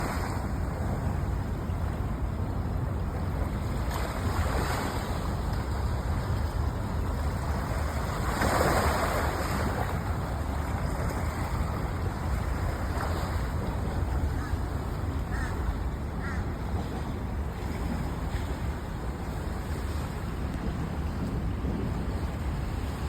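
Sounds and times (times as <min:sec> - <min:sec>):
rushing water: 0:00.0 - 0:23.0
wind rumbling on microphone: 0:00.0 - 0:23.0.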